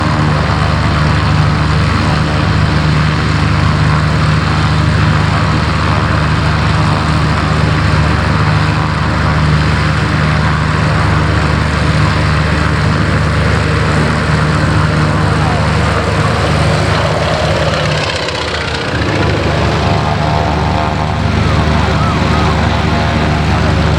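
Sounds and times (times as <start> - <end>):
propeller plane engine drone: 0.0 - 23.9.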